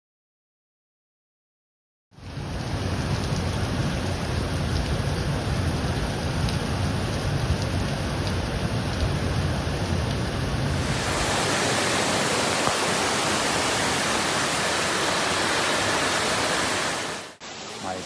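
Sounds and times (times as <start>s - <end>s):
rushing floodwater and torrential rain: 2.2s - 18.0s.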